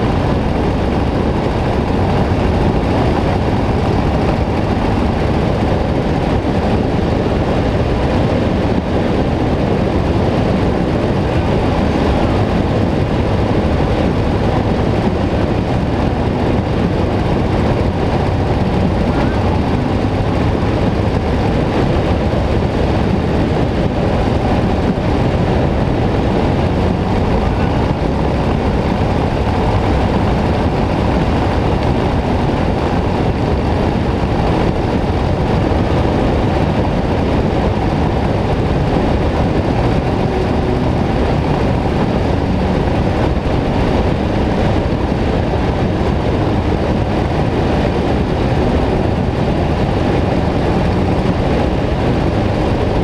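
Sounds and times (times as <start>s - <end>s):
motorcycle engine rumble: 0.0s - 53.0s
wind rush: 0.0s - 53.0s.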